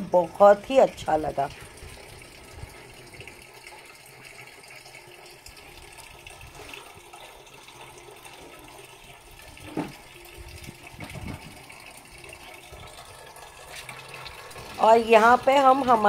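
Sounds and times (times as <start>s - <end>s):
spring water flowing: 0.0s - 16.0s.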